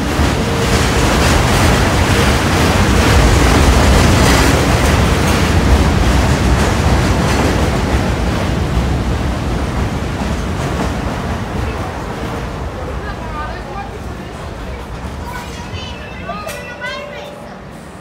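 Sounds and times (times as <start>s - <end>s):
subway train rumbling past: 0.0s - 18.0s.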